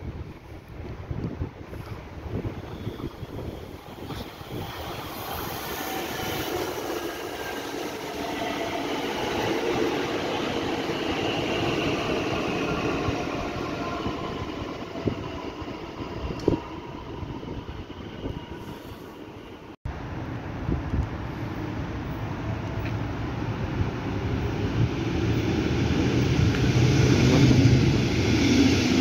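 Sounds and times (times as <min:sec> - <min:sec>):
train running past: 0:01.7 - 0:19.8, 0:21.5 - 0:29.0.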